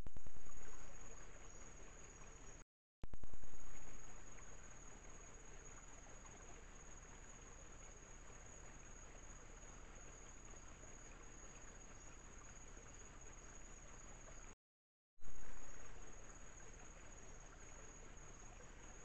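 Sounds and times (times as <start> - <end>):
high insect trill: 0.0 - 2.6, 3.2 - 14.6, 15.2 - 19.0
low even hiss: 0.0 - 14.6, 15.2 - 19.0.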